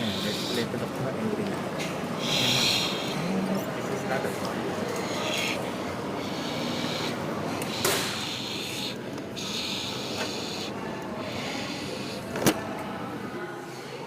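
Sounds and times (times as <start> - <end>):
exhaust fan motor hum: 0.0 - 13.3.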